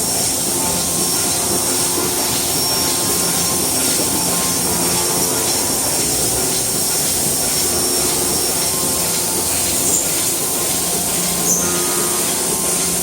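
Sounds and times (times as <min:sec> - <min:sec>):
lathe whirring: 0:00.0 - 0:13.0.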